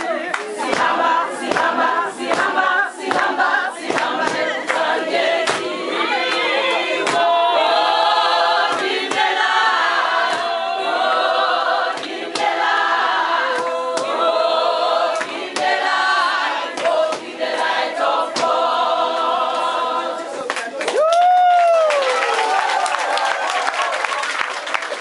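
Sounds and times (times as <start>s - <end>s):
crowd singing unaccompanied: 0.0s - 20.5s.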